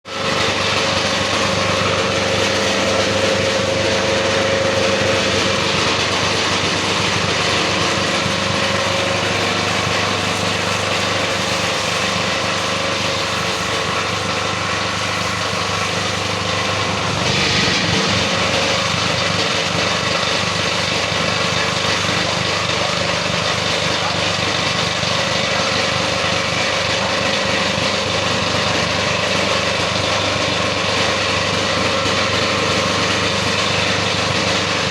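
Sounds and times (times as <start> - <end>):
plastic grinder machine running: 0.0 - 34.9.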